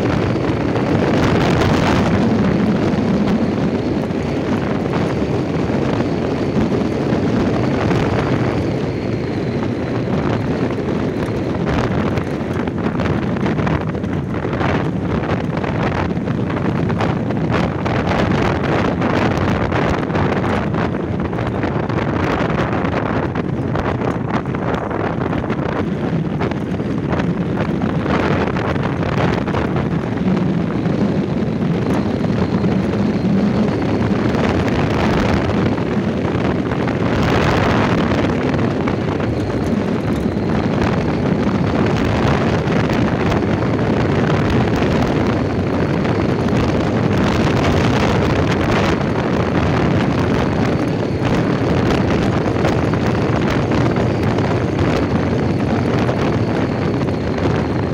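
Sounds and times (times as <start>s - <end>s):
car engine and tyres rumbling: 0.0s - 57.9s
wind buffeting microphone: 0.0s - 57.9s.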